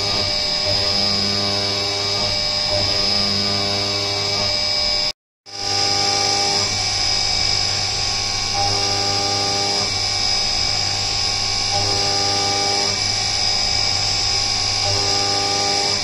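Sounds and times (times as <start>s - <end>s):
metal cutting tone: 0.0s - 16.0s
milling spindle whine: 0.0s - 16.0s.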